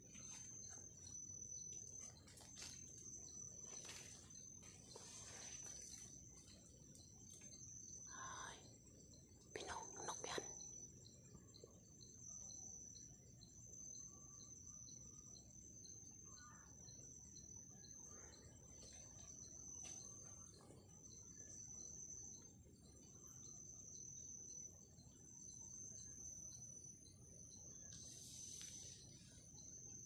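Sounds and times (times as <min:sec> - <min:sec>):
high-pitched insect trill: 0:00.0 - 0:30.0.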